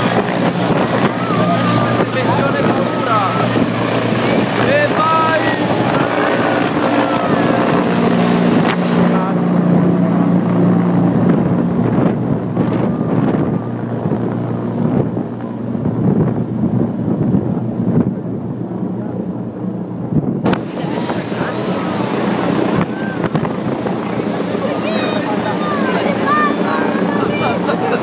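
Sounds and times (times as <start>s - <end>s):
helicopter taking off: 0.0s - 28.0s.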